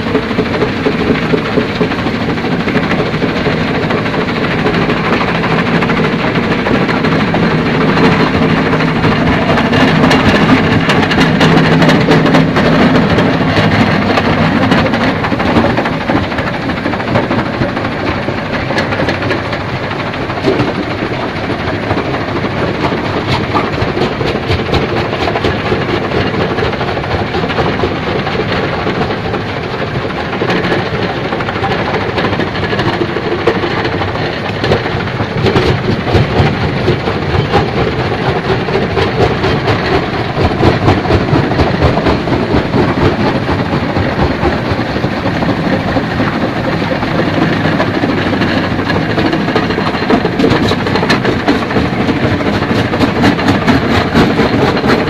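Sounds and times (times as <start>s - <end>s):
stone crusher machine drone: 0.0s - 55.0s.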